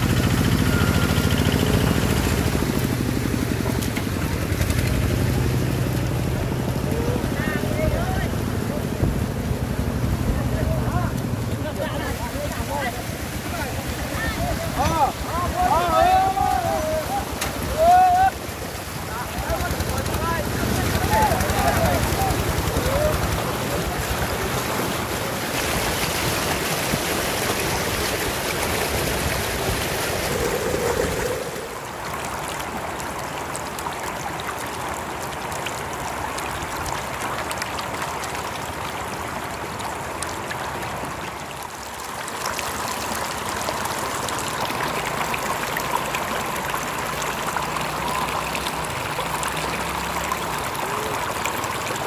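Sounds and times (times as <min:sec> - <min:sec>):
floodwater rushing and splashing: 0:00.0 - 0:52.0.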